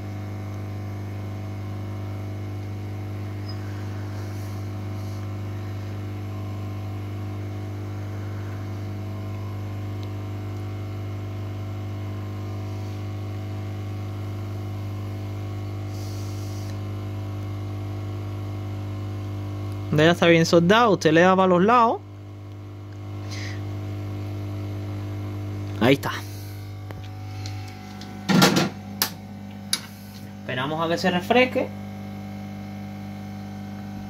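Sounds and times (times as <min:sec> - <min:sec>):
hot-air station humming: 0:00.0 - 0:34.0.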